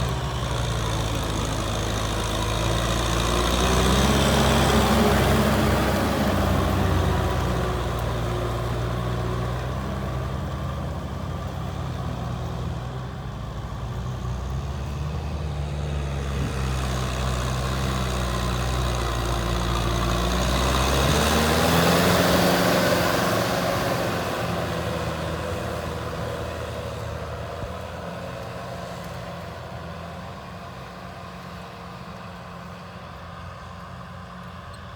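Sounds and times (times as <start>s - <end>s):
tractor engine droning: 0.0s - 34.9s.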